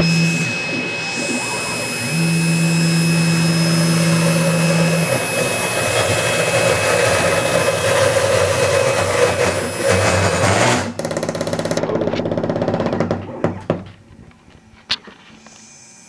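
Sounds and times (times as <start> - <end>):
cnc mill spindle whining: 0.0 - 13.7.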